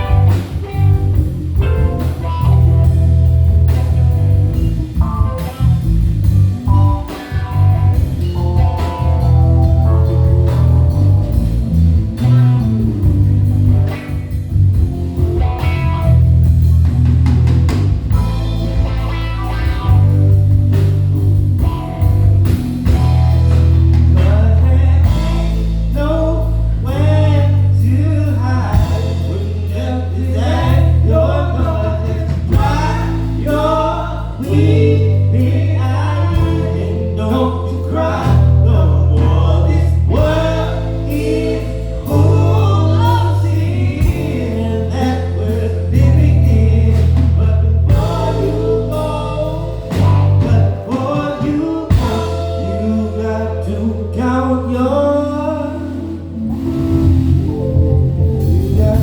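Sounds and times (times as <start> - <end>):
drum kit: 0.0 - 53.4, 55.8 - 59.0
bass guitar notes: 0.0 - 59.0
melodic lead line: 0.0 - 59.0.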